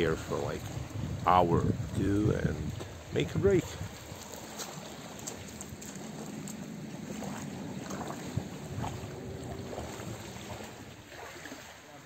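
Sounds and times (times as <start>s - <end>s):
water lapping on pebbles: 0.0s - 12.0s.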